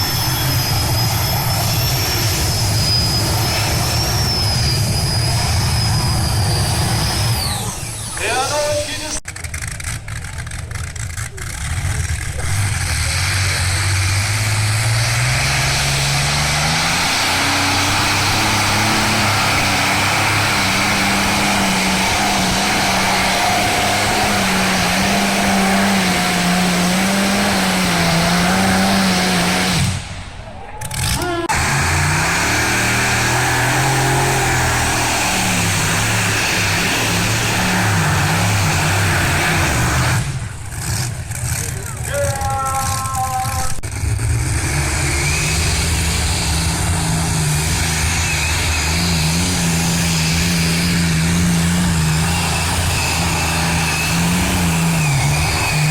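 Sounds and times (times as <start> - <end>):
tractor engine at full power: 0.0 - 55.9.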